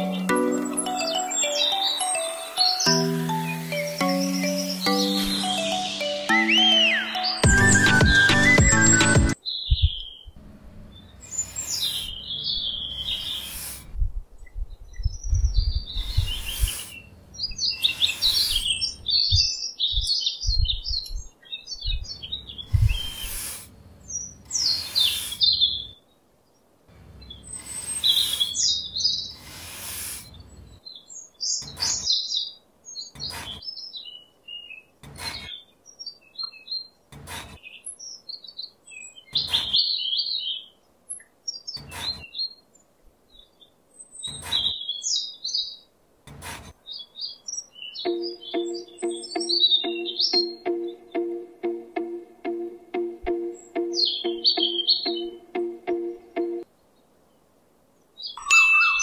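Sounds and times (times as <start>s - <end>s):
small birds chirping: 0.0s - 51.9s, 52.5s - 59.0s.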